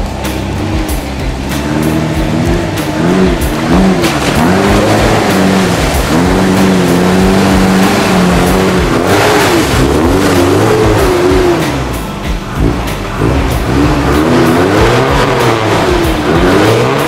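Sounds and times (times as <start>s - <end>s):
engine revving: 0.0s - 17.0s
mud and water splashing: 0.0s - 17.0s.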